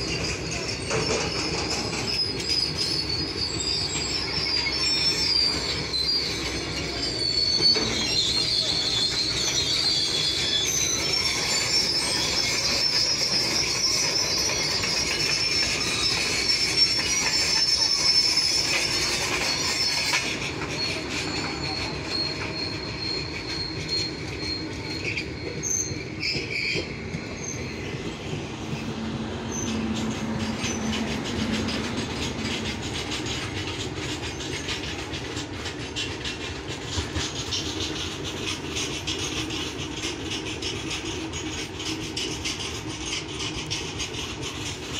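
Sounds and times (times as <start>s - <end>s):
rumble of wheels on track: 0.0s - 44.9s
train wheels squealing: 0.0s - 44.9s.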